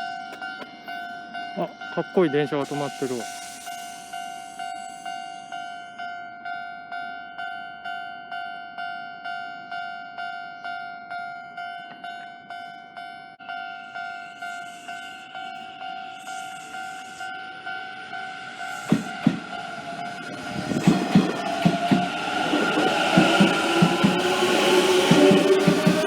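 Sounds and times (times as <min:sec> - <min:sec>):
train passing: 0:00.0 - 0:08.0, 0:11.6 - 0:26.0
level crossing warning bell: 0:00.0 - 0:26.0.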